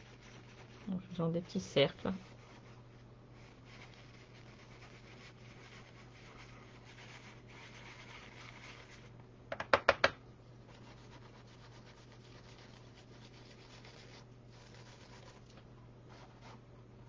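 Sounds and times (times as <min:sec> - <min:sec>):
paintbrush brushing over gold leaf: 0:00.0 - 0:09.1, 0:10.6 - 0:16.6.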